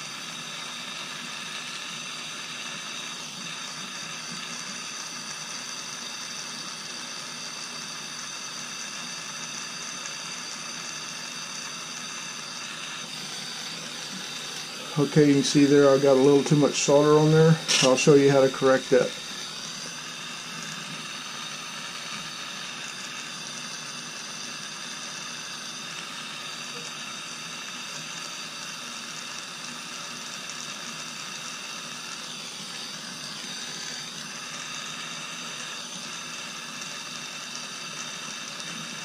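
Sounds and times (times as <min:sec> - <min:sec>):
gas torch flame hissing: 0:00.0 - 0:39.0.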